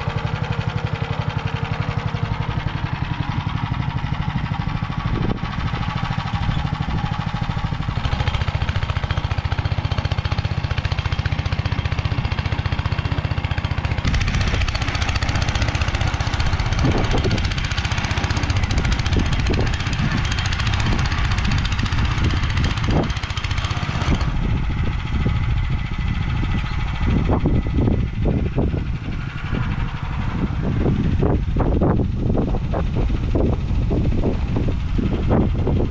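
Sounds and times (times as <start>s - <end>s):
rotary tiller churning soil: 0.0s - 35.9s
single-cylinder engine running: 0.0s - 35.9s.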